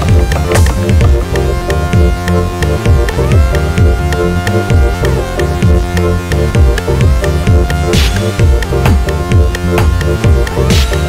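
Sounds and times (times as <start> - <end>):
electronic dance music: 0.0 - 11.0
sharp ticks: 0.0 - 11.0.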